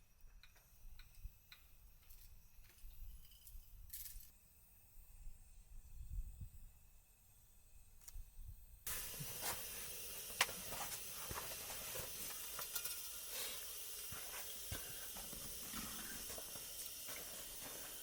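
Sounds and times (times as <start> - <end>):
pressure stove hissing: 0.1 - 18.0.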